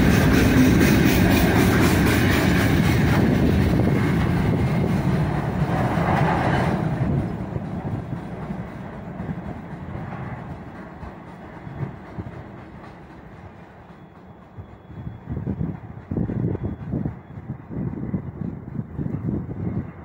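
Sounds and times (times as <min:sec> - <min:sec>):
train wheels clickety-clack: 0:00.0 - 0:20.0.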